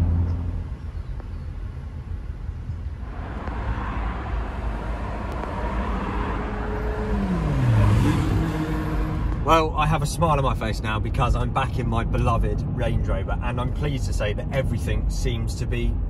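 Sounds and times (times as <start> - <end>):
car engine noise: 0.0 - 16.0
road and wind noise: 0.0 - 16.0.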